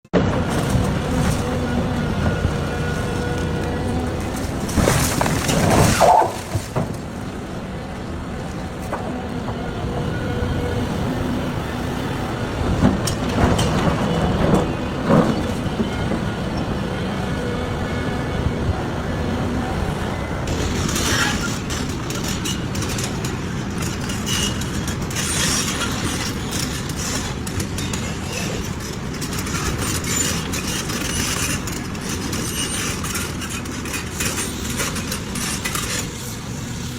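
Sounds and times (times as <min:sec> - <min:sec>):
large excavator running: 0:00.1 - 0:36.9.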